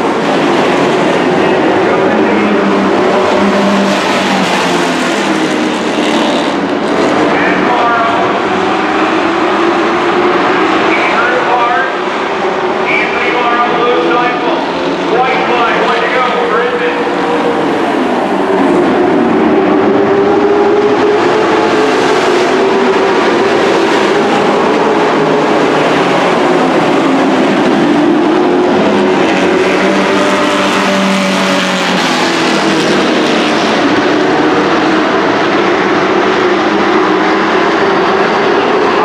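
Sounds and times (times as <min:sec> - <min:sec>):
race truck engines: 0:00.0 - 0:39.0.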